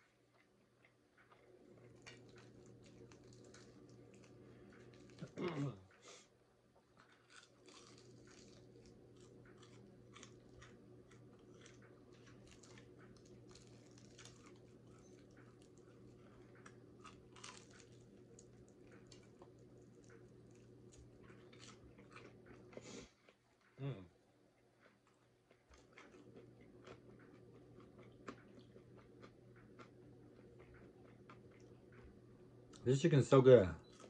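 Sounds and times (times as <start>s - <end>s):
chewing and crunching food: 0.0s - 6.1s, 6.7s - 32.9s, 33.8s - 34.0s
faint low hum: 0.0s - 34.0s.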